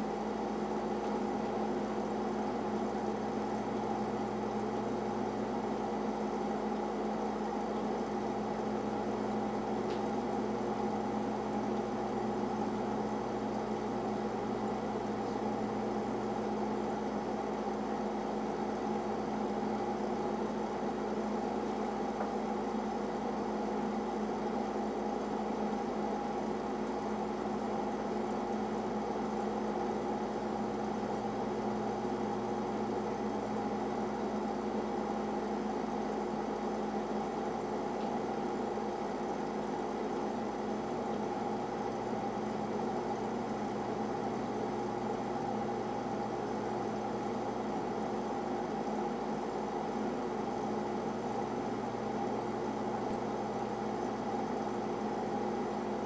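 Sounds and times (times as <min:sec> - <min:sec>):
boiler machine hum: 0:00.0 - 0:56.0.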